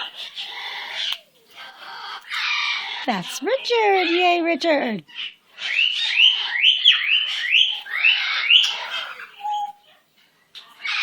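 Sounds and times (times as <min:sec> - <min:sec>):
parrot chirping: 0:00.0 - 0:04.4, 0:05.0 - 0:10.1.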